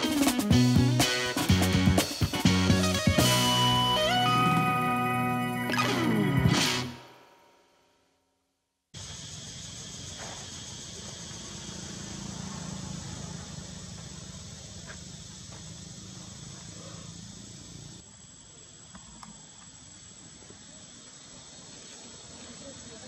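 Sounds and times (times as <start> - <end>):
insects droning: 0.1 - 7.0, 9.0 - 23.0.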